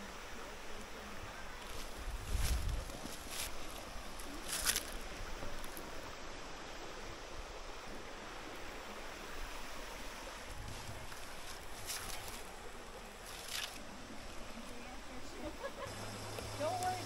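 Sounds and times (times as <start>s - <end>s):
flowing creek: 0.0s - 17.0s.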